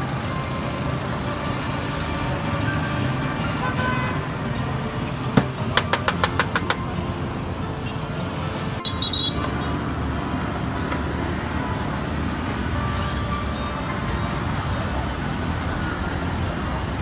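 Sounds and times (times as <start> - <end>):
motorbike engines passing: 0.0 - 17.0
street traffic: 0.0 - 17.0.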